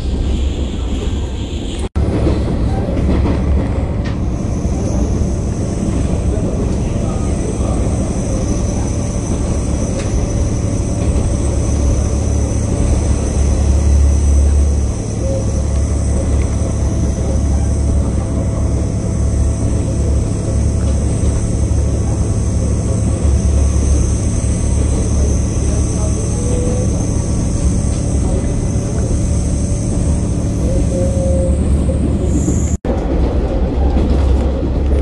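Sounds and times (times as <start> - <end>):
diesel railcar engine drone: 0.0 - 35.0
wheels running on track: 1.8 - 35.0.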